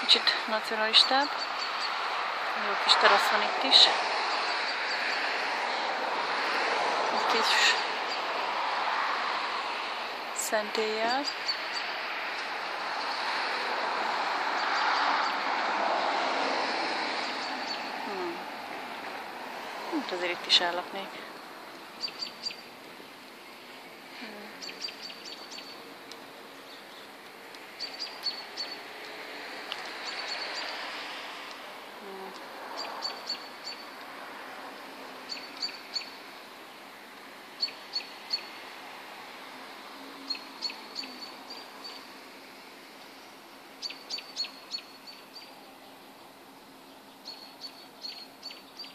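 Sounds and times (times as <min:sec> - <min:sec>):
songbird chirping: 0:00.0 - 0:05.9, 0:07.2 - 0:08.7, 0:10.4 - 0:13.4, 0:17.2 - 0:34.2, 0:35.2 - 0:38.8, 0:40.2 - 0:42.2, 0:43.0 - 0:48.9
street hum: 0:00.0 - 0:48.9.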